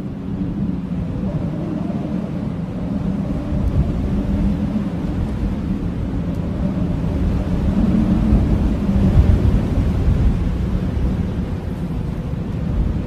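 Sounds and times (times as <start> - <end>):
howling blizzard wind: 0.0 - 13.0.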